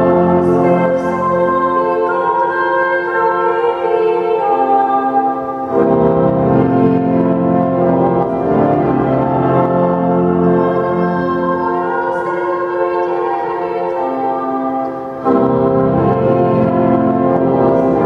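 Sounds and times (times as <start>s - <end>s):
church organ chords: 0.0s - 18.0s.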